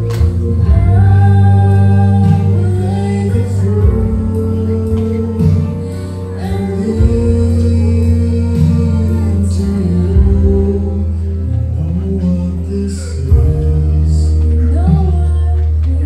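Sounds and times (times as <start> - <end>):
instrumental backing music: 0.0 - 16.0
man and woman singing duet: 0.2 - 16.0.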